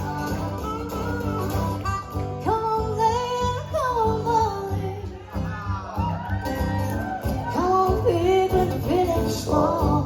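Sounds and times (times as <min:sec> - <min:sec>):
live band playing country-folk song: 0:00.0 - 0:10.0.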